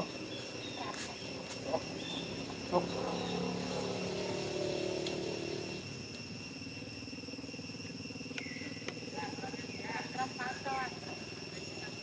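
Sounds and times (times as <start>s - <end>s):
high insect drone: 0.0s - 12.0s
vehicle engine running: 1.4s - 12.0s.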